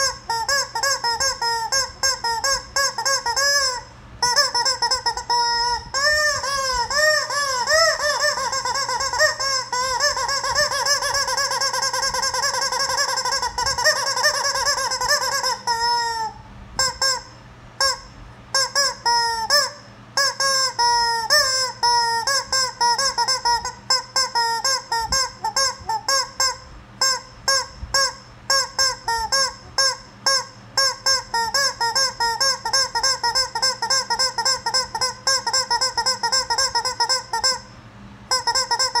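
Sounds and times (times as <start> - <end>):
rubber chicken toy squawking: 0.0 - 39.0.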